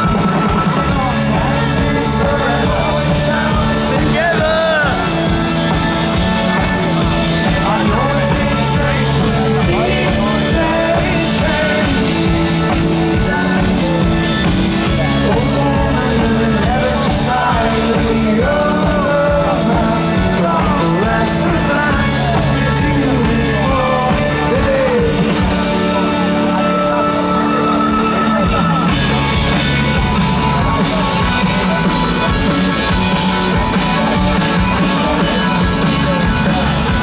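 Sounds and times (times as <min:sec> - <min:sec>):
rock music with singing: 0:00.0 - 0:37.0
steady drum beat: 0:00.0 - 0:37.0.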